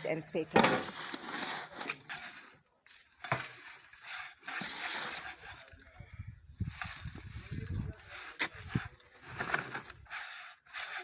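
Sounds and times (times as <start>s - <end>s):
gritty scraping: 0.0s - 11.0s.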